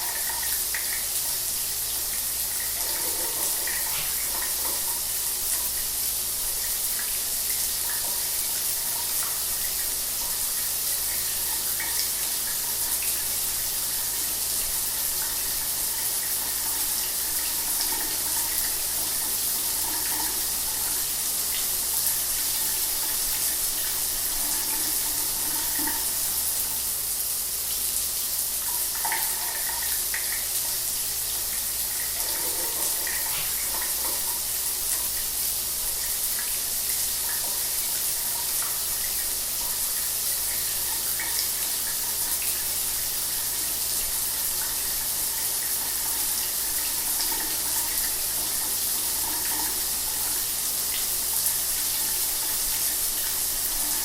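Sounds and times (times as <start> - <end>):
shower water running: 0.0 - 54.0.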